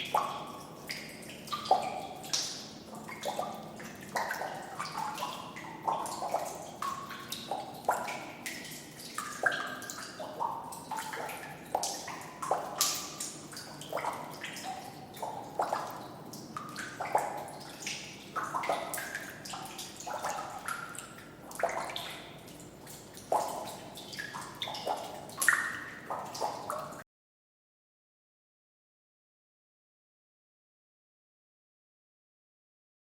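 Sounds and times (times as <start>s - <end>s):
water dripping plinks: 0.0s - 27.0s.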